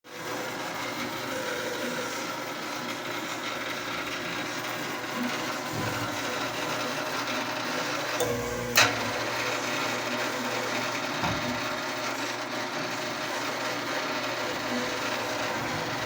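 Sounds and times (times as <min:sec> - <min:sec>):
washing machine humming and whirring: 0:00.1 - 0:16.0.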